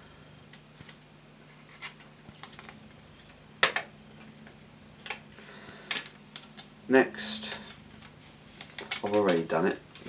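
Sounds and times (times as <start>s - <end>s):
hands handling plastic parts: 0.5s - 5.2s, 5.9s - 6.7s, 7.4s - 10.0s.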